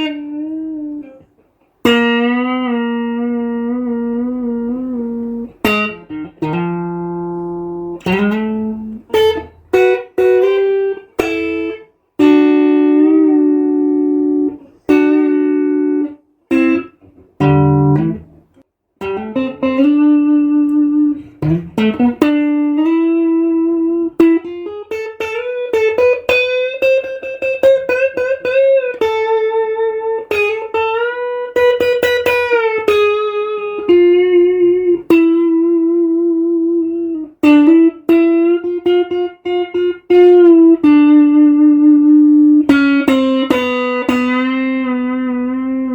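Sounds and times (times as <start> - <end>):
electric guitar lead melody: 0.0 - 45.9.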